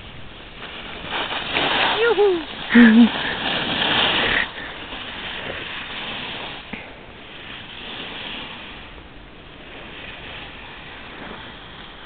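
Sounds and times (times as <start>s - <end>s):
skis scraping over packed snow: 0.0s - 12.0s.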